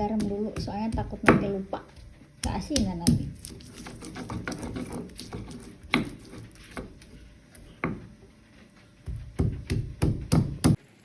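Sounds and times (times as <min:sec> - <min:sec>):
pestle knocking in a mortar: 0:00.0 - 0:08.1, 0:09.0 - 0:10.8.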